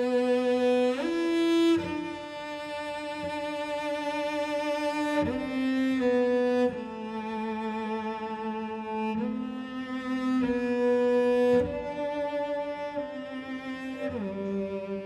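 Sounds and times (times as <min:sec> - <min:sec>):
cello bowing long notes: 0:00.0 - 0:15.0.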